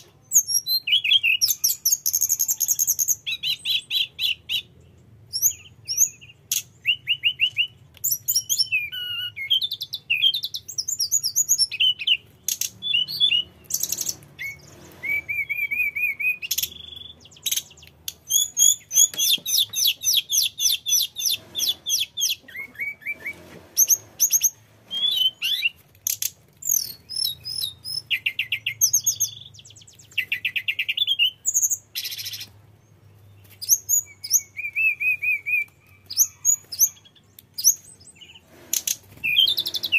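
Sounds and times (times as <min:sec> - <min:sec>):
bird singing whistles and trills: 0:00.3 - 0:04.7, 0:05.3 - 0:32.5, 0:33.1 - 0:39.9.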